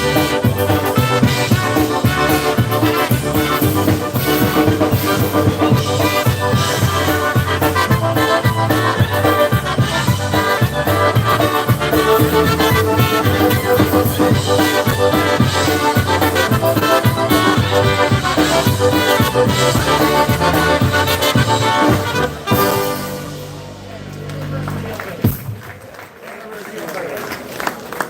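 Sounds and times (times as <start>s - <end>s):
accordion: 0.0s - 25.2s
polka band playing: 0.0s - 25.8s.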